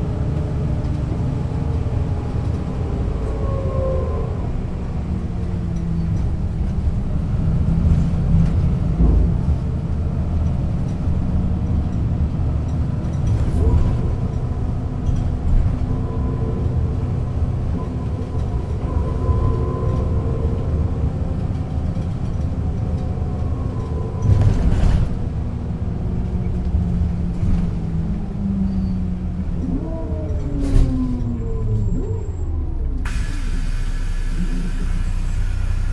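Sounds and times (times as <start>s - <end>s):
bus diesel engine rumbling: 0.0s - 35.9s.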